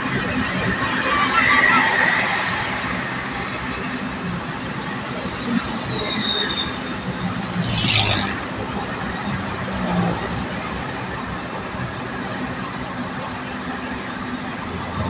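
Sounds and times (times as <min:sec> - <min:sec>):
road and engine noise inside vehicle: 0:00.0 - 0:15.0.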